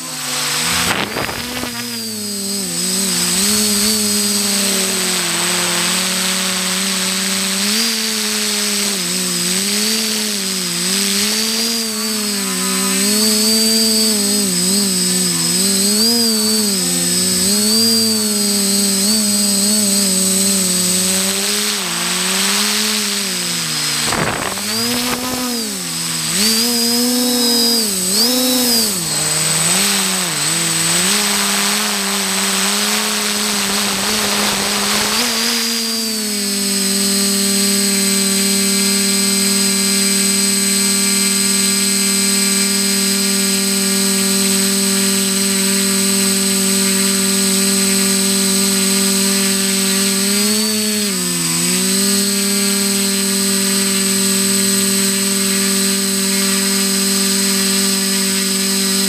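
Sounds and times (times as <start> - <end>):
drone motors and propellers whining: 0.0 - 59.0.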